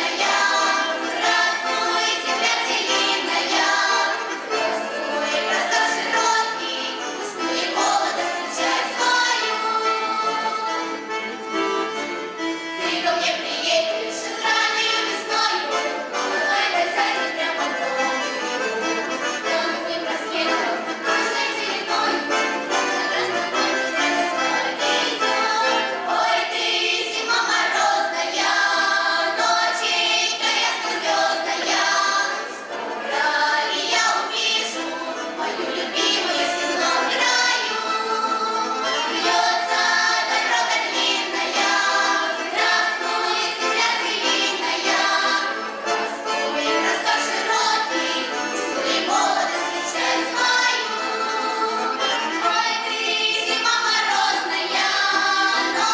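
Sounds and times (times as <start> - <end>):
children singing folk song in chorus: 0.0 - 55.9.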